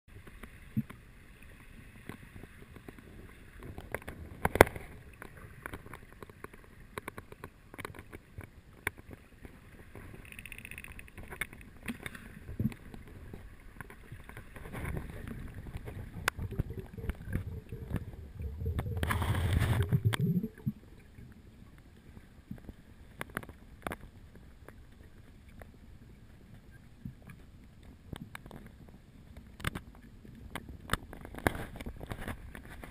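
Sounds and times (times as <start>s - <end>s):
underwater clicks and crackles: 0.1s - 32.9s.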